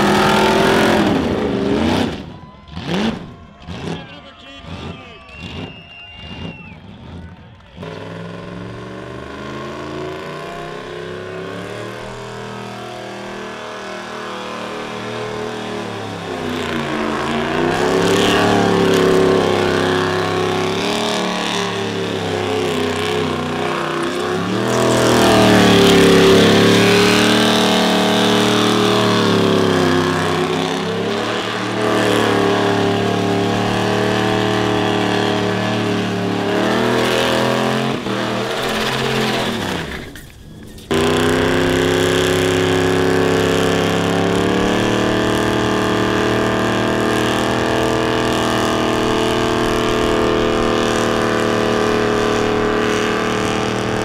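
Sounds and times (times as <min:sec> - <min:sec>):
car engine revving high: 0:00.0 - 0:54.0.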